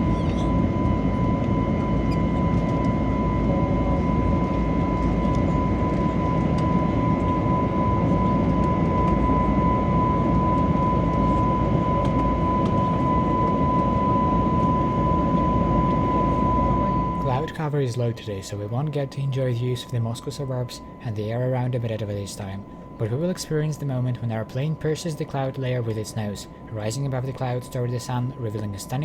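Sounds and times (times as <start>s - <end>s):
engine high whine: 0.0s - 29.0s
jet engine and airflow rush: 0.0s - 29.0s.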